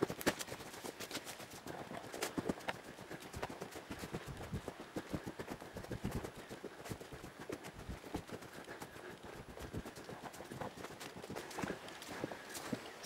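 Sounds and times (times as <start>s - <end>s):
footsteps on dirt path: 0.0s - 13.0s.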